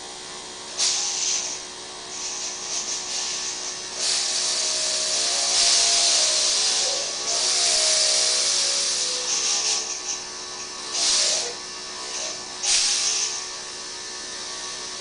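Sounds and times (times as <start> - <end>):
compressed air hissing in bursts: 0.7 - 15.0.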